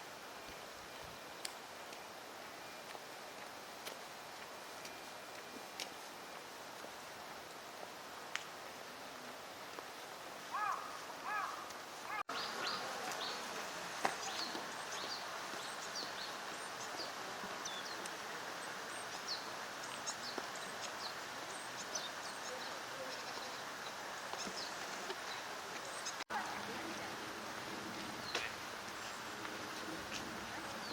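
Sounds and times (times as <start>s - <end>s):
outdoor background noise: 0.0s - 30.9s.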